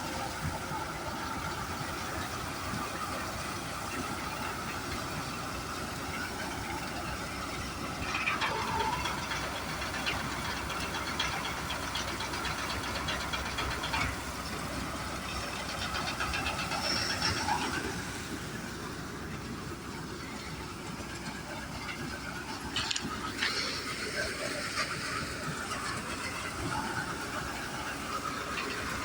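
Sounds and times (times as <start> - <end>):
diesel tractor running: 0.0 - 29.0
rattle of fast ticks: 0.4 - 29.0.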